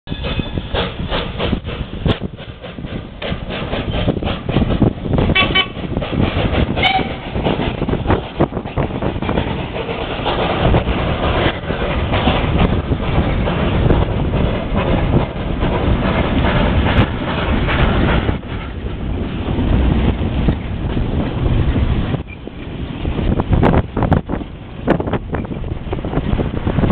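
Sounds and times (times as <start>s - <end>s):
tram rumbling: 0.0s - 26.9s
wheels clattering over rails: 0.1s - 26.9s.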